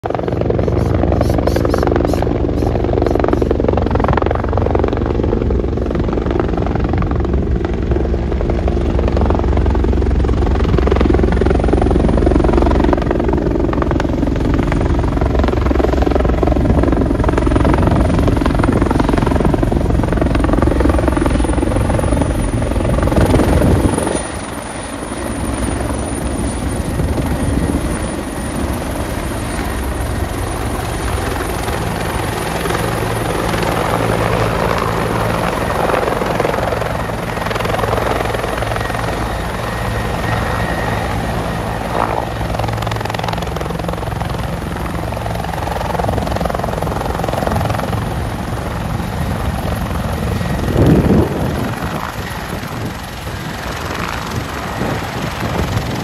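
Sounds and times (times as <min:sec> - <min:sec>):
helicopter rotor and engines: 0:00.0 - 0:56.0.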